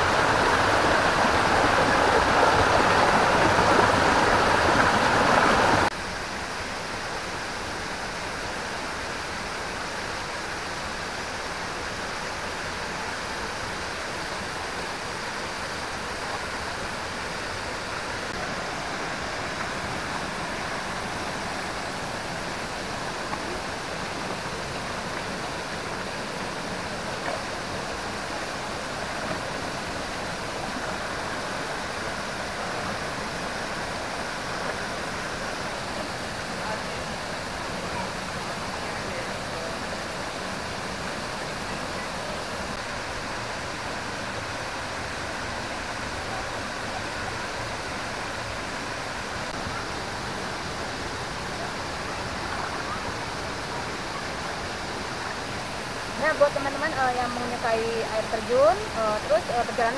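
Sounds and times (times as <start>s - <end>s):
stream water rushing: 0.0s - 59.9s
waterfall rushing: 0.0s - 59.9s.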